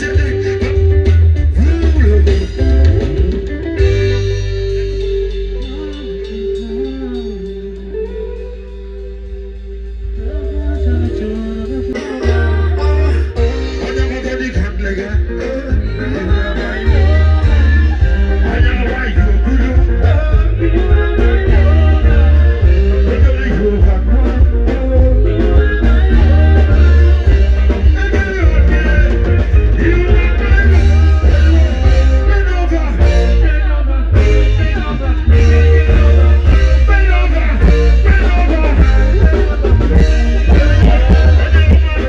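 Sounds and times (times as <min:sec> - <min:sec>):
heavy bass: 0:00.0 - 0:42.0
loud music with singing: 0:00.0 - 0:42.0.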